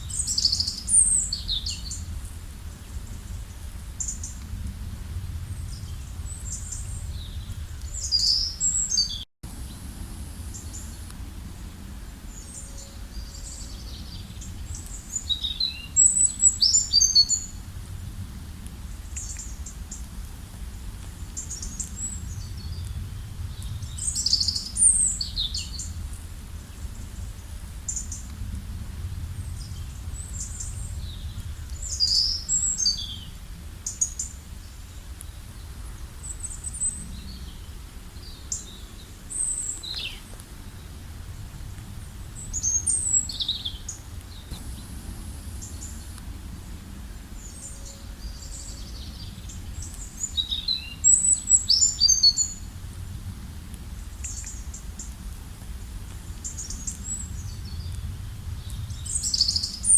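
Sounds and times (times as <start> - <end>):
songbirds chirping: 0.0 - 4.6, 5.4 - 17.7, 18.9 - 28.4, 29.1 - 59.9
steady low rumble: 0.0 - 8.9, 9.5 - 51.6, 52.5 - 59.9.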